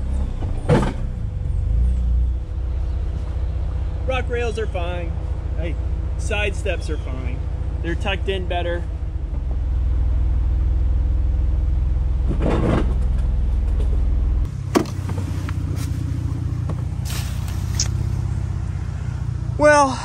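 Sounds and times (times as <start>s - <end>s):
car engine drone: 0.0s - 20.0s.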